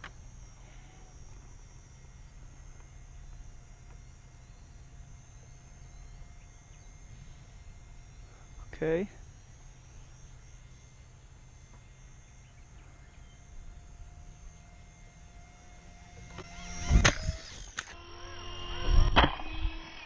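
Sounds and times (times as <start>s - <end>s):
toy helicopter rotor whining: 0.0s - 20.0s.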